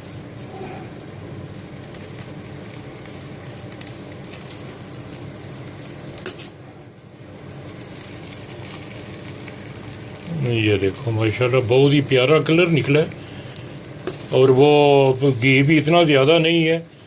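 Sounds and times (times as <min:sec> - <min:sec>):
rice sizzling in a pot: 0:00.0 - 0:17.0.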